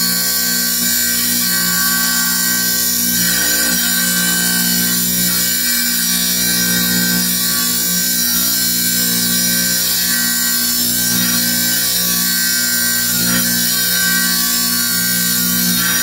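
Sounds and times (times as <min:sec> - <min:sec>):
wet tile saw running: 0:00.0 - 0:16.0.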